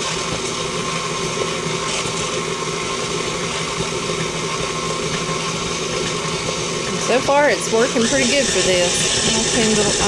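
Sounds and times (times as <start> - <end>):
beater turning through thick dough: 0.0 - 10.0
stand mixer running: 0.0 - 10.0.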